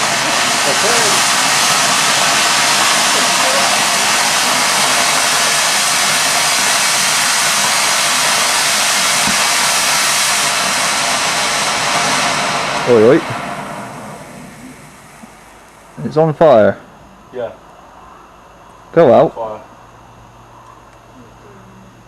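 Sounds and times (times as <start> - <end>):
firework fountain hissing: 0.0 - 18.2.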